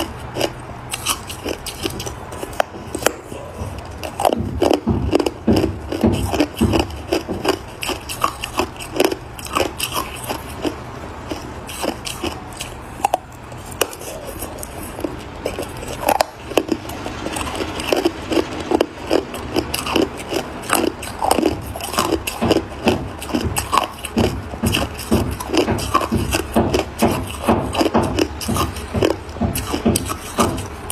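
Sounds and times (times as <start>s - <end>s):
ice being chewed: 0.0s - 30.9s.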